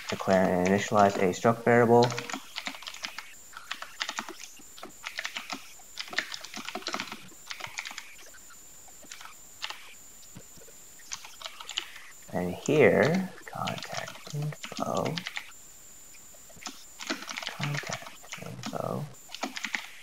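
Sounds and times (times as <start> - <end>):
computer keyboard typing: 0.0 - 10.0, 11.0 - 15.5, 16.6 - 20.0.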